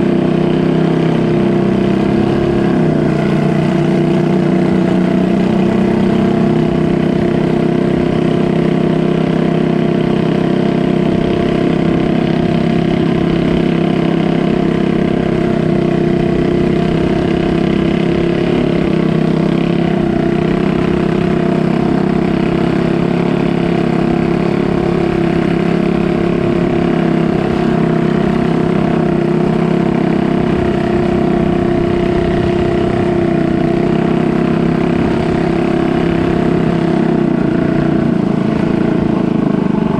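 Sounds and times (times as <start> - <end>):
motorboat engine droning: 0.0 - 39.9.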